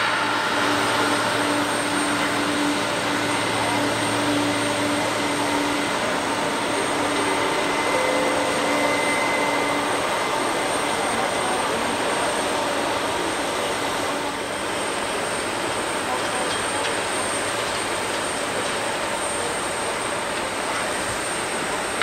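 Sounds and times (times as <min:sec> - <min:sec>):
jet engines droning at taxi: 0:00.0 - 0:22.0.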